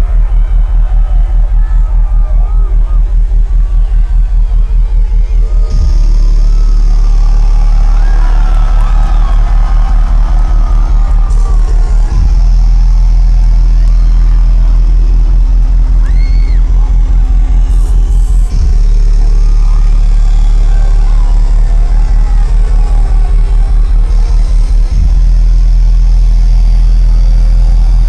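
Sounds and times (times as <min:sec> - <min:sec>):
crowd yelling: 0:00.0 - 0:25.0
loud dubstep music: 0:00.0 - 0:28.0.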